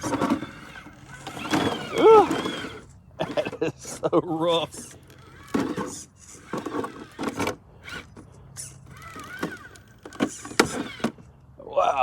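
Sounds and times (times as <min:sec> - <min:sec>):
brief motor whine: 0:00.0 - 0:03.6, 0:04.5 - 0:11.2.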